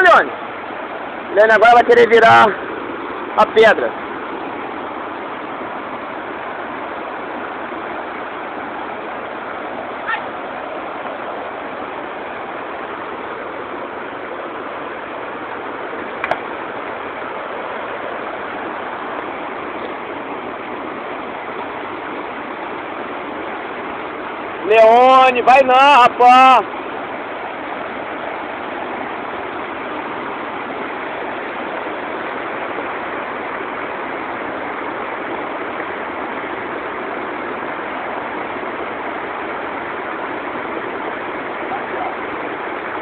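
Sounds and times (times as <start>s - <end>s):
waterfall rushing over rocks: 0.0s - 43.0s.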